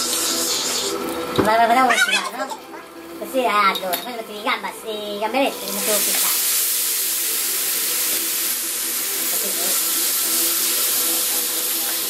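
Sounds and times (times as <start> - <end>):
oil sizzling in frying pan: 0.0 - 2.5, 4.7 - 12.0.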